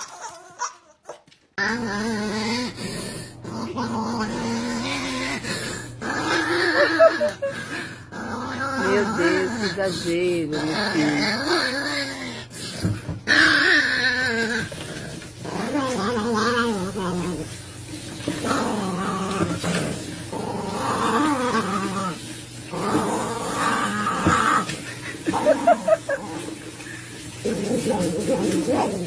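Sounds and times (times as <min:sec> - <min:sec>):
dog snarling: 0:01.6 - 0:17.6, 0:18.4 - 0:26.5
dog growling and grumbling: 0:01.6 - 0:29.0.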